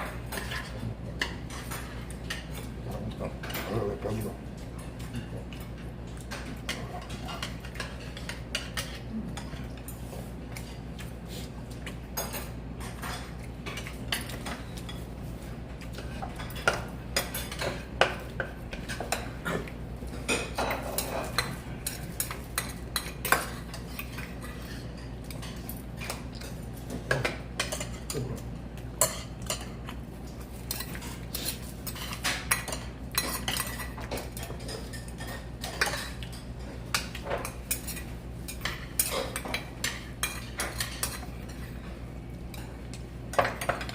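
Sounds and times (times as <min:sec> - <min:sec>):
utensils clinking against dishes: 0:00.0 - 0:43.9.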